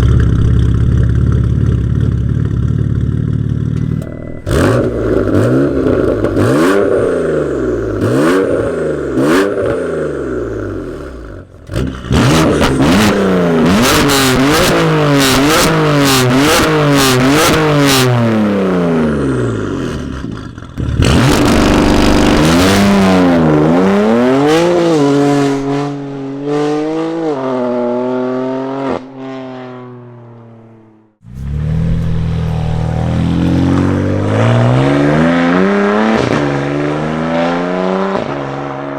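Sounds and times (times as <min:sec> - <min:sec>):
car engine revving hard: 0:03.8 - 0:29.9, 0:31.3 - 0:38.9.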